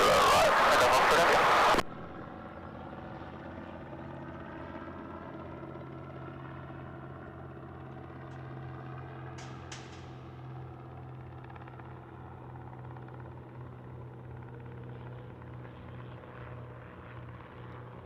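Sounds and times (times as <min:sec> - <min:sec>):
light aircraft engine running: 0:00.0 - 0:18.0.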